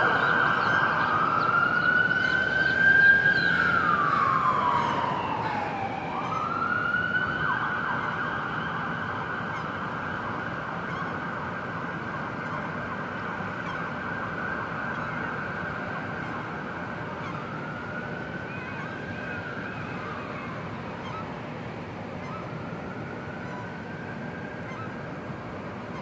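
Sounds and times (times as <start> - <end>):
emergency vehicle siren wailing: 0.0 - 26.0.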